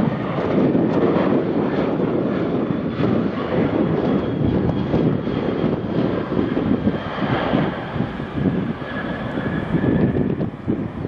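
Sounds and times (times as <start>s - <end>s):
high jet whine: 0.0s - 11.0s
jet engines at takeoff thrust: 0.0s - 11.0s.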